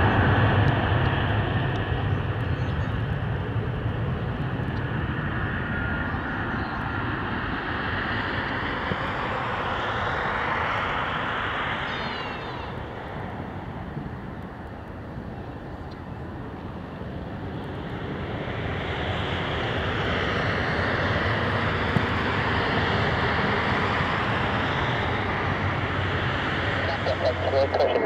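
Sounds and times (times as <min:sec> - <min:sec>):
jet engines rumbling at take-off: 0:00.0 - 0:28.0.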